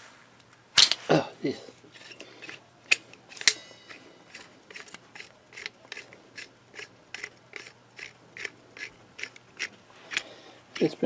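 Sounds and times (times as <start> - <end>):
pliers metallic clicks and rasps: 2.0 - 11.0.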